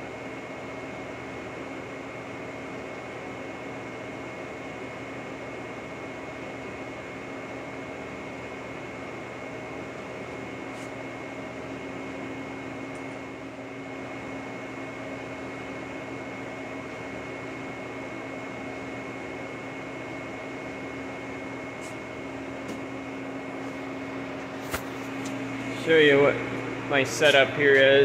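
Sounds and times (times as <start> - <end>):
boring mill humming and whining: 0.0 - 28.0.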